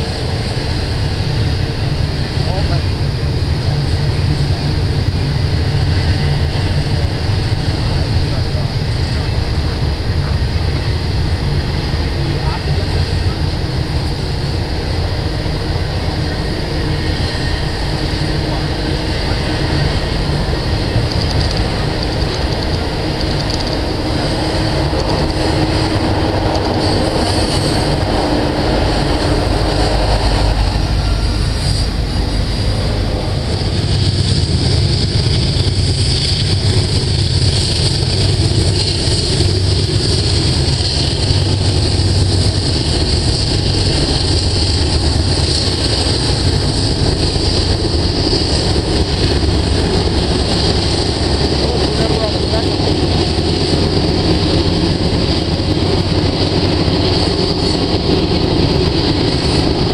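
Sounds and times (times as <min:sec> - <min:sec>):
diesel locomotive rumble and whine: 0:00.0 - 0:59.9
freight train rolling past: 0:00.0 - 0:59.9.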